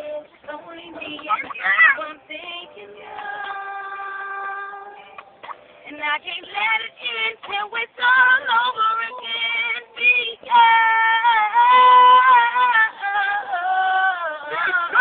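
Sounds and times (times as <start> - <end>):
woman singing wordlessly: 0.0 - 4.9, 5.9 - 15.0.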